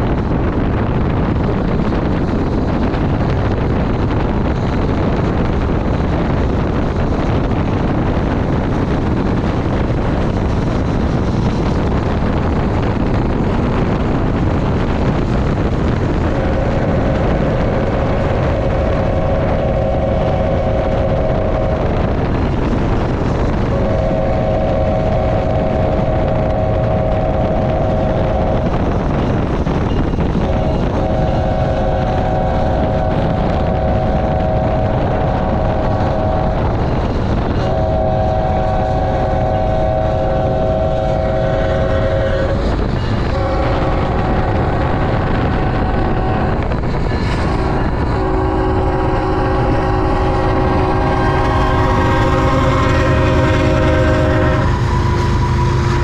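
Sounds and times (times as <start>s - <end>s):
train rumbling at speed: 0.0s - 56.0s
locomotive air horn chord: 4.4s - 56.0s.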